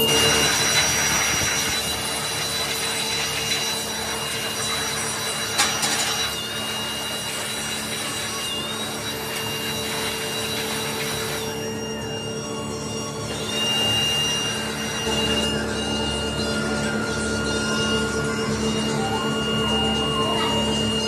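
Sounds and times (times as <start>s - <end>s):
electric air blower running: 0.0s - 21.0s.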